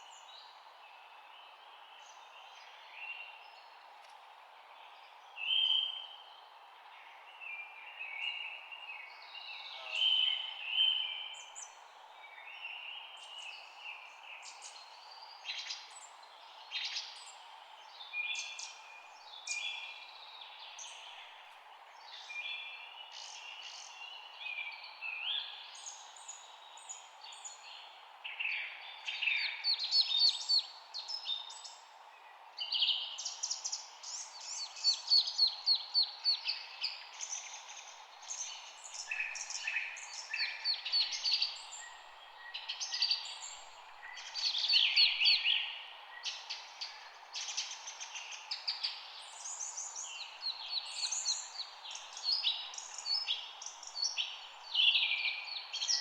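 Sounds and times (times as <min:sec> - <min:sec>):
faint steady hiss: 0:00.0 - 0:56.0
songbirds chirping and singing: 0:07.1 - 0:56.0.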